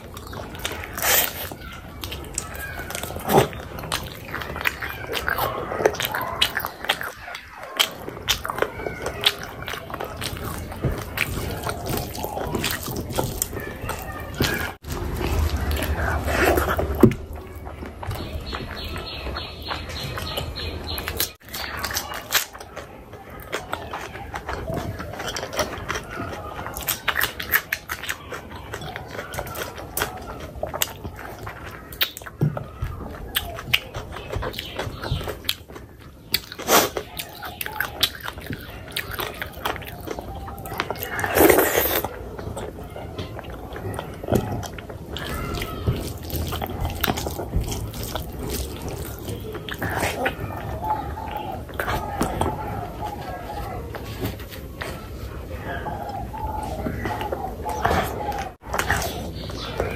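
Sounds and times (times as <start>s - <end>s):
wet chewing and lip smacks: 0.0s - 59.9s.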